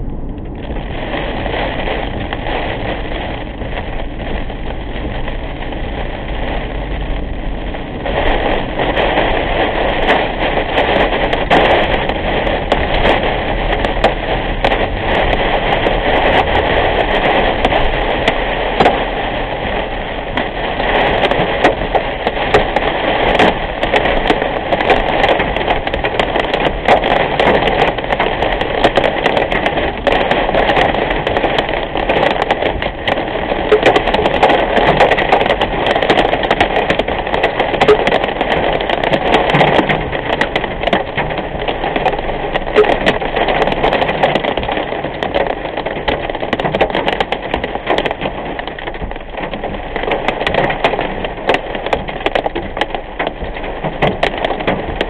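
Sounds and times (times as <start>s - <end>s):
hail clicking on car: 0.0s - 55.0s
heavy rain pelting car roof: 0.0s - 55.0s
road and engine noise: 0.0s - 55.0s.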